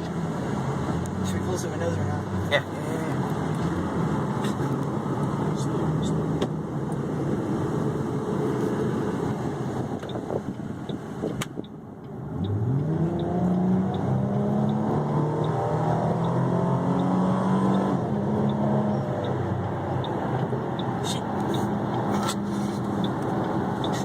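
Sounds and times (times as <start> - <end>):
car exhaust droning and accelerating: 0.0 - 24.0.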